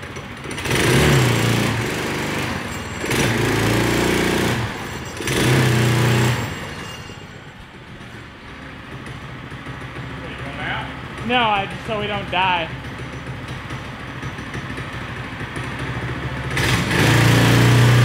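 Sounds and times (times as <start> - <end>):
small gas engine revving and idling: 0.0 - 7.2, 8.0 - 18.0.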